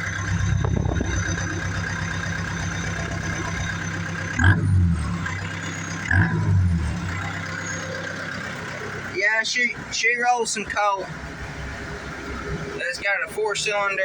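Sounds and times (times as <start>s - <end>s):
tractor diesel engine revving: 0.0s - 14.0s.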